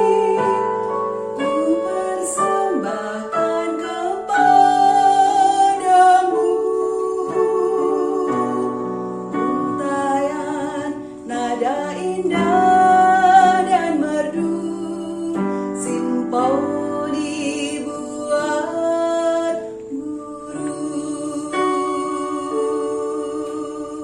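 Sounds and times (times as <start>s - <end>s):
instrumental accompaniment: 0.0s - 24.0s
woman singing slow melody: 0.0s - 24.0s.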